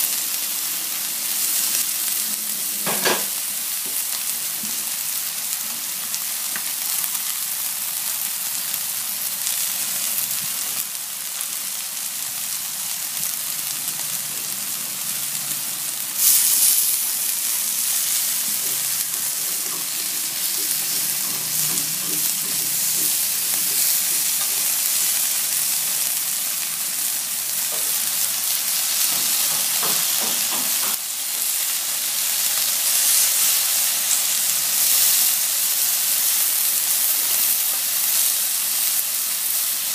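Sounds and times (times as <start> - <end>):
chicken sizzling on grill pan: 0.0 - 39.9.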